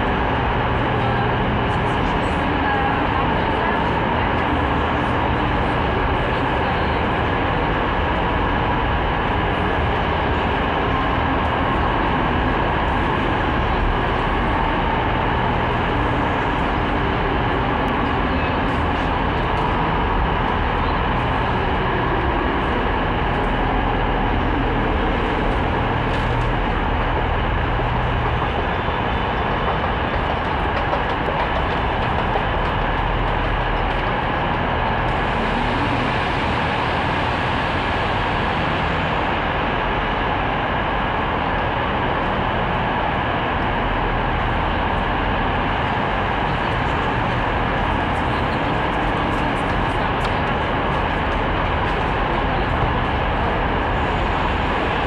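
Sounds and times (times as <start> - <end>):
faint steady whine: 0.0 - 55.0
train rumbling: 0.0 - 55.0.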